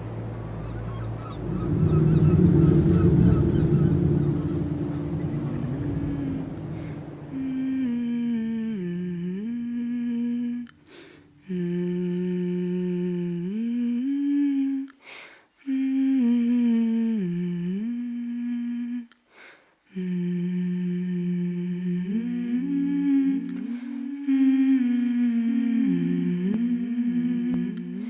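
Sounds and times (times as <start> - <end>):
person humming slow tune: 0.0 - 15.0, 15.7 - 19.2, 19.9 - 28.0.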